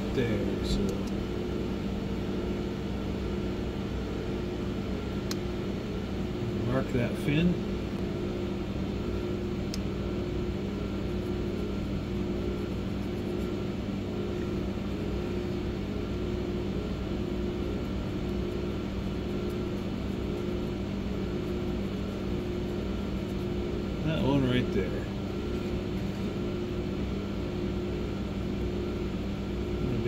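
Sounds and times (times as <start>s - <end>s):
milling machine humming: 0.0s - 30.0s.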